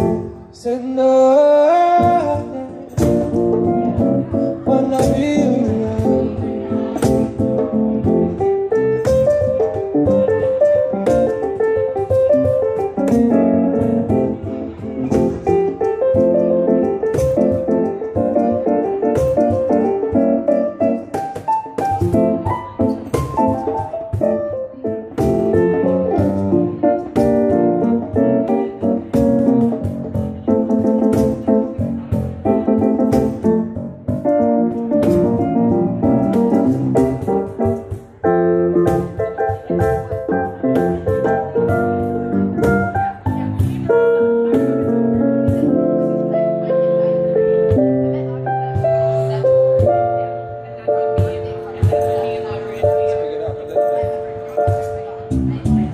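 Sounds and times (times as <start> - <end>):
keyboard playing piano sound: 0.0 - 55.9
cajon hits: 2.0 - 45.8, 51.2 - 53.2, 53.8 - 55.9.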